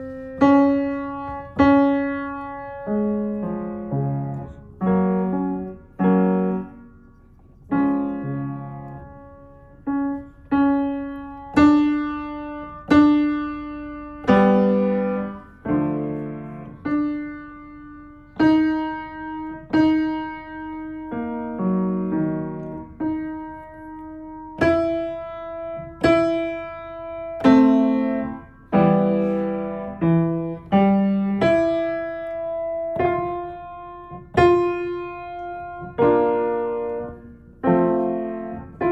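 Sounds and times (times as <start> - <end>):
piano notes and chords: 0.0 - 38.9.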